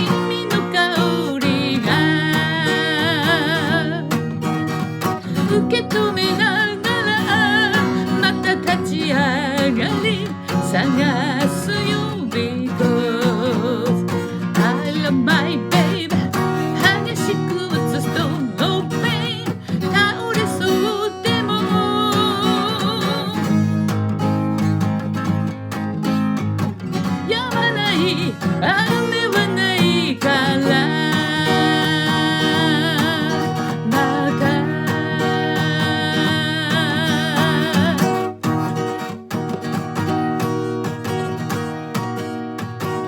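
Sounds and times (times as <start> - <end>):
person singing with vibrato: 0.0 - 23.7, 27.0 - 38.4
acoustic guitar strumming: 0.0 - 43.0.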